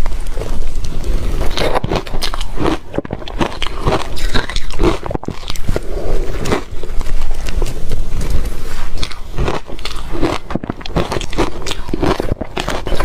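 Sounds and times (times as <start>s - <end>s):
person crunching shaved ice: 0.0s - 13.0s.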